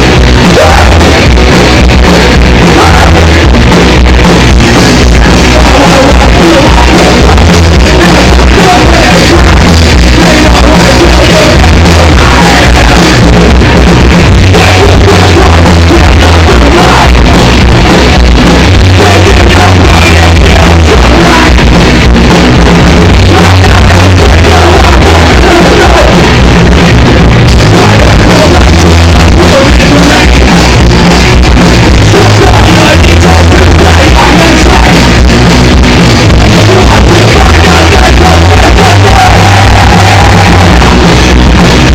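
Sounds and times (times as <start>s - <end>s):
rock music with singing: 0.0s - 41.9s.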